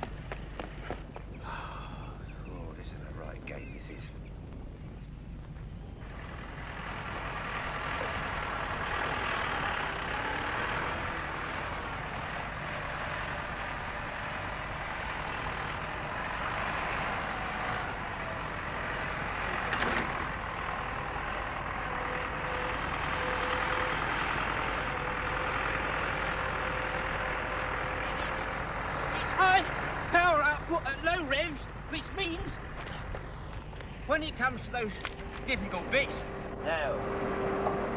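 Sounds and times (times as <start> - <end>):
tractor diesel engine: 0.0 - 3.9, 5.8 - 37.9.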